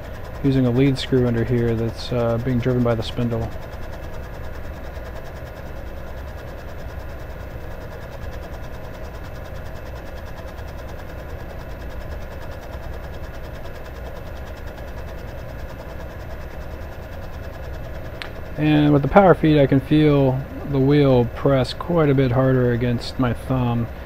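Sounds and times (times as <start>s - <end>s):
lathe running: 0.0s - 24.0s.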